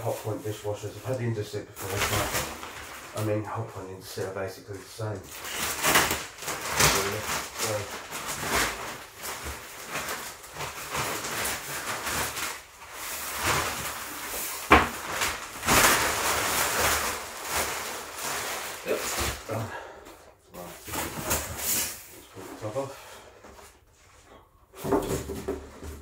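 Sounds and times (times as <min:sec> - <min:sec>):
plastic wrapping rustling: 0:00.0 - 0:24.2.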